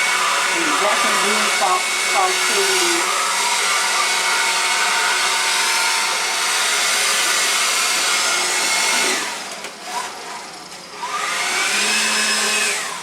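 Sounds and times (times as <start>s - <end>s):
blower motor rushing: 0.0s - 13.0s.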